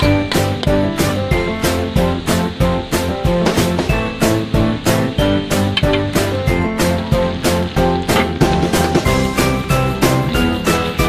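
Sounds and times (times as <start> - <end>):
upbeat music with tinkling notes: 0.0 - 1.9, 3.8 - 11.0.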